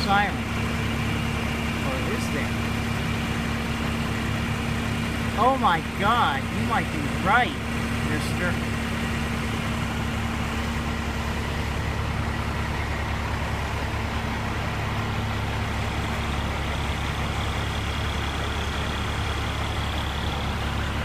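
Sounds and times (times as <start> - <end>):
fire engine idling: 0.0 - 21.0.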